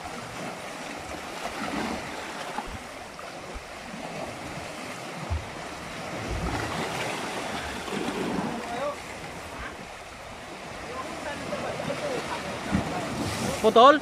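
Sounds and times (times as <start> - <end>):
waves washing: 0.0 - 14.0.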